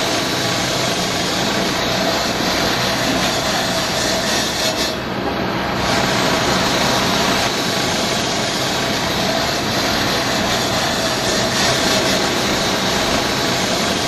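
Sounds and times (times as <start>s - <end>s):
loud engine-like rumble: 0.0s - 14.0s.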